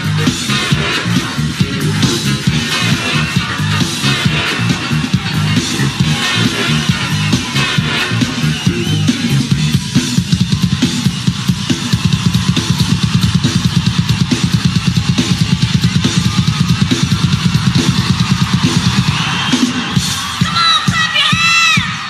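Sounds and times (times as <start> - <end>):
live band music: 0.0 - 21.8
drum kit fast beat: 0.0 - 22.0.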